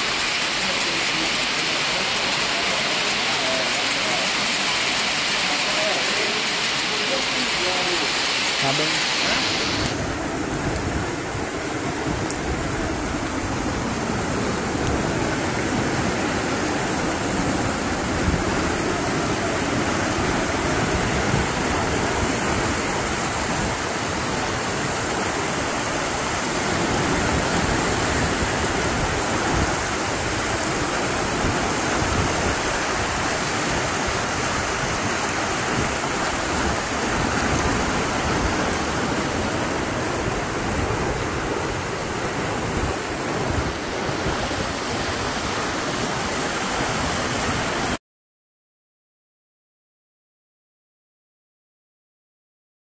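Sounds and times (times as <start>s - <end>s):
floodwater rushing: 0.0s - 48.0s.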